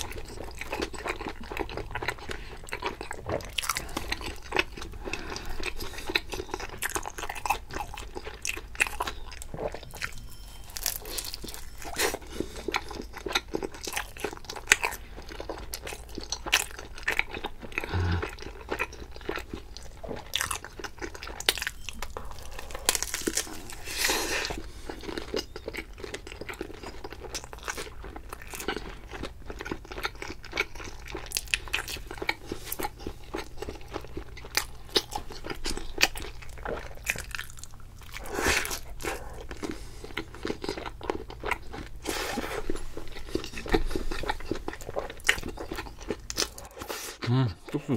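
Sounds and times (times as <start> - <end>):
crunchy chewing: 0.0 - 47.3.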